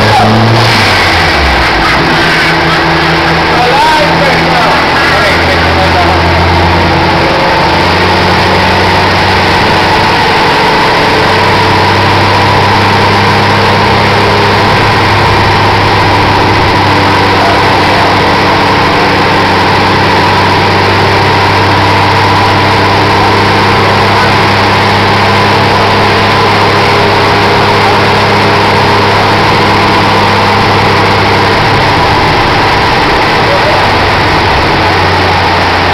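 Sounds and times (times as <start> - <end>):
car engine running steadily: 0.0 - 35.9.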